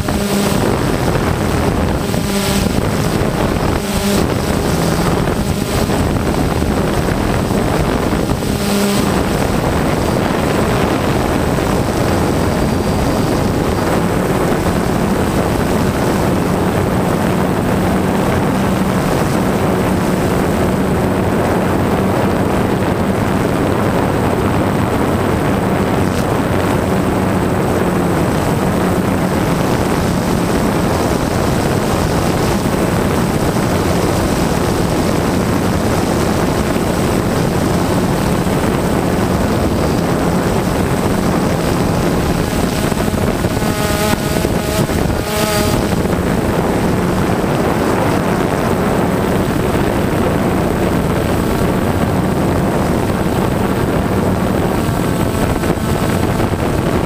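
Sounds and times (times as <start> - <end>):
drone propellers whirring: 0.0 - 57.0.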